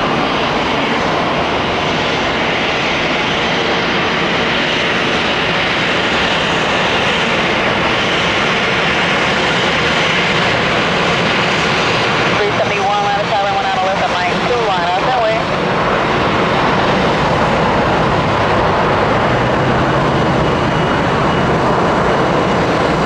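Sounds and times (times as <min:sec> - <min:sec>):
jet engine roar: 0:00.0 - 0:23.0.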